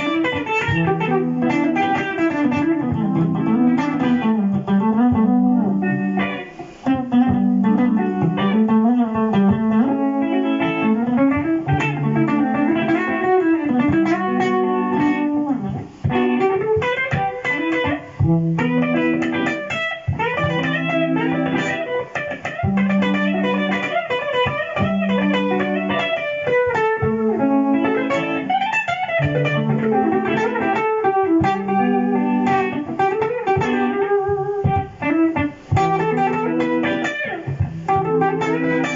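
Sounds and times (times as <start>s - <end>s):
jazz electric guitar lead: 0.0s - 38.9s
looped low guitar notes: 0.0s - 38.9s.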